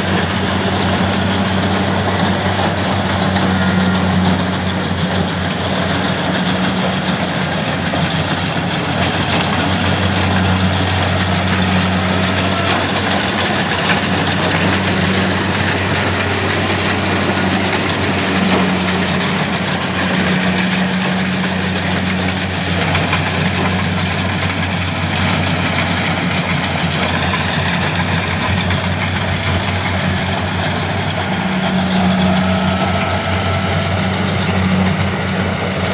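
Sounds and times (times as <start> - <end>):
combine harvester engine droning: 0.0 - 35.9.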